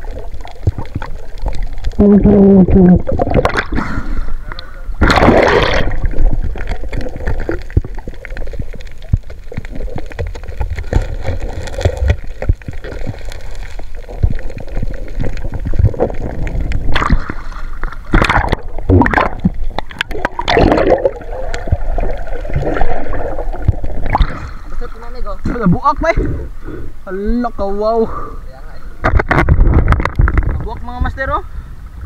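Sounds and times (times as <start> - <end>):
water splashing: 0.0 - 26.4
sea water sloshing and gurgling: 0.0 - 27.0, 28.8 - 32.0.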